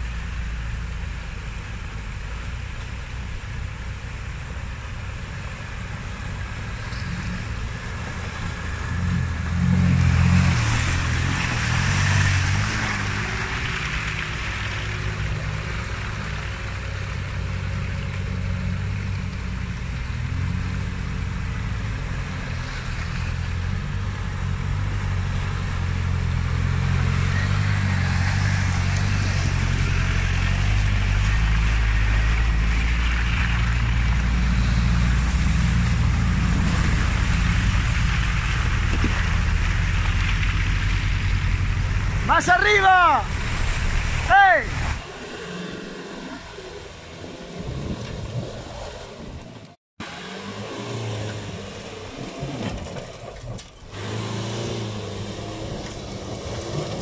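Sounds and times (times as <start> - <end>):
off-road engine working hard: 0.0 - 57.0
wind: 0.0 - 57.0.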